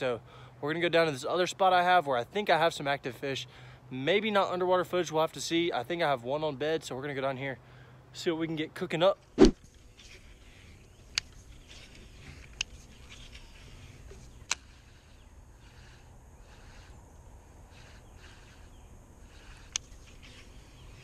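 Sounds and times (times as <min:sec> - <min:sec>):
faint outdoor background: 0:00.0 - 0:21.0.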